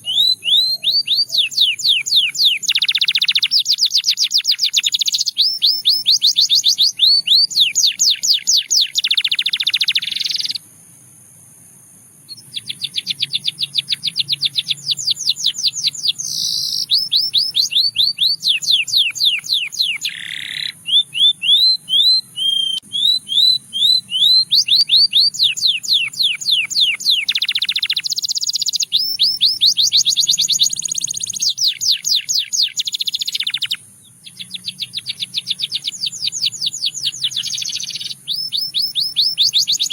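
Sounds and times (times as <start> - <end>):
canary singing trills: 0.0 - 10.7, 12.2 - 39.9.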